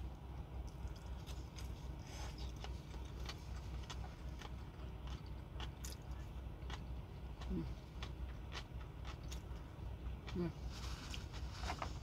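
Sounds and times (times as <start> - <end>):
person chewing with wet clicks: 0.0 - 10.6.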